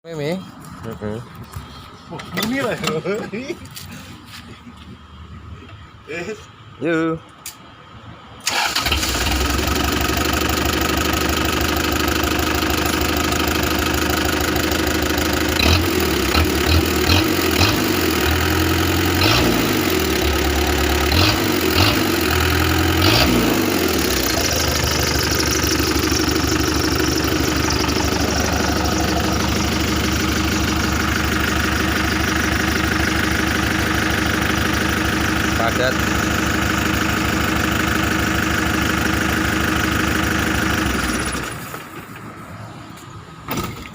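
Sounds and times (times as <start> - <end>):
diesel engine idling and revving: 7.8 - 43.9.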